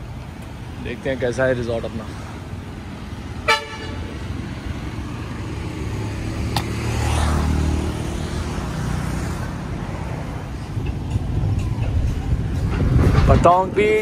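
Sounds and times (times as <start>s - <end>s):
road traffic: 0.0s - 14.0s
vehicle passing close by: 2.0s - 13.3s.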